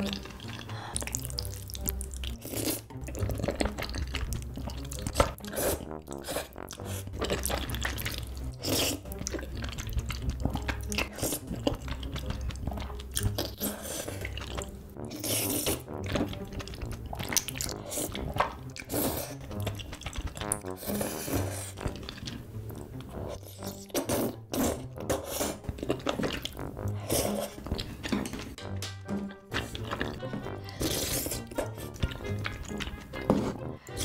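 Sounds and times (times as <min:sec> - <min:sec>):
slurping noodles: 0:00.0 - 0:28.6, 0:29.4 - 0:34.0
squelchy chewing: 0:00.0 - 0:34.0.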